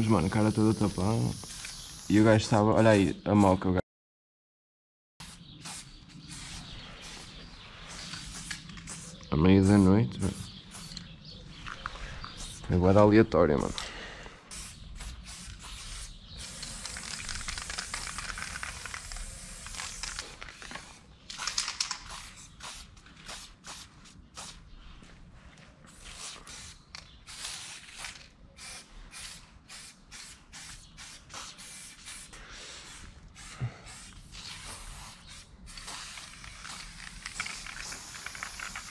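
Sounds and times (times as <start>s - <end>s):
spray paint can hissing: 0.0s - 2.3s, 5.2s - 11.0s, 12.3s - 12.6s, 14.5s - 24.6s, 25.9s - 38.9s.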